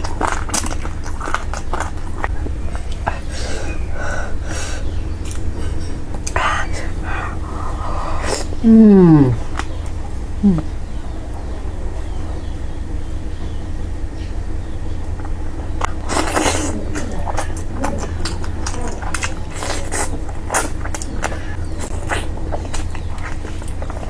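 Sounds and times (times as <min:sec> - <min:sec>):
lip smacks and wet chewing: 0:00.0 - 0:11.5, 0:15.0 - 0:24.0
steady low hum: 0:00.0 - 0:24.0.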